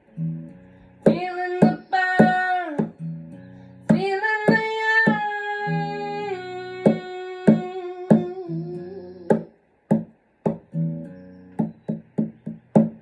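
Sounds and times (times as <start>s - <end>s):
plucked guitar with drum hits: 0.2s - 13.0s.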